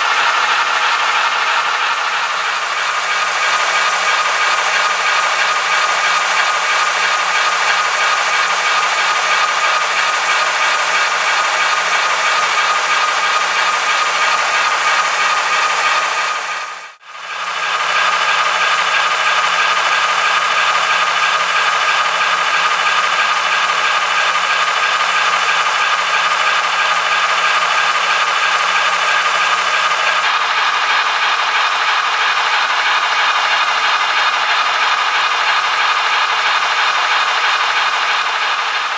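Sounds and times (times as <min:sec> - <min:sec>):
model train motor whirring: 0:00.0 - 0:38.9.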